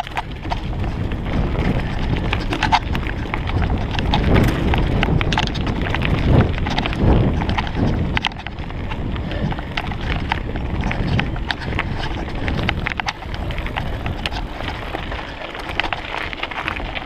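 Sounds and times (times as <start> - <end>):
mountain bike clattering: 0.0 - 17.0
tyres rumbling on dirt: 0.0 - 17.0.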